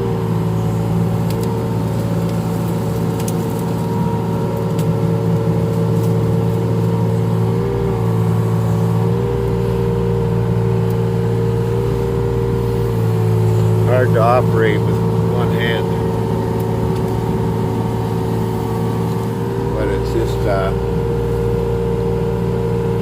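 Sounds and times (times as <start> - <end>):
diesel engine running at high revs: 0.0 - 23.0
faint hydraulic whine: 0.0 - 23.0.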